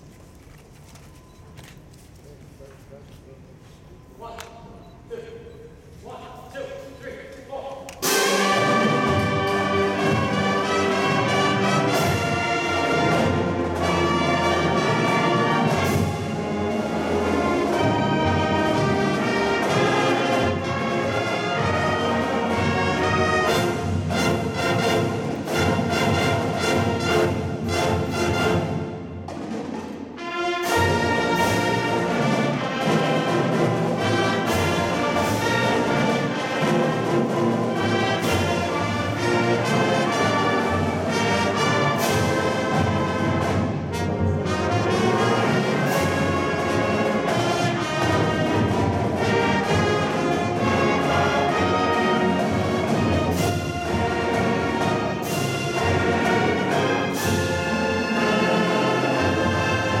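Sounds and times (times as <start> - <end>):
marching band playing: 8.0 - 60.0.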